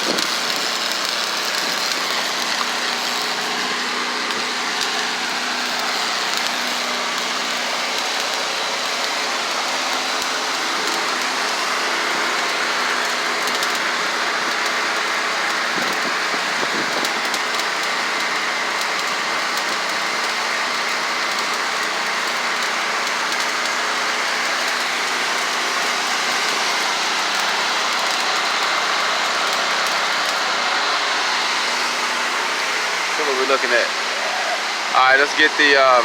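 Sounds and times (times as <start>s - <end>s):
welding arc crackling hiss: 0.0s - 36.0s.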